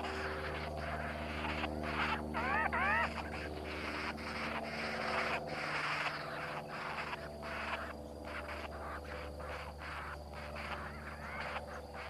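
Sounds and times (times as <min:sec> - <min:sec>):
rasping buzzing animal chorus: 0:00.0 - 0:12.0
steady low hum: 0:00.0 - 0:12.0.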